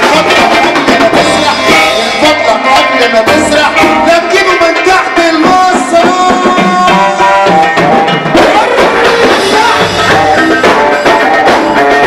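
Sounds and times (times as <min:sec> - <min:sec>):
melodic instrument line: 0:00.0 - 0:12.0
steady drum beat: 0:00.0 - 0:12.0.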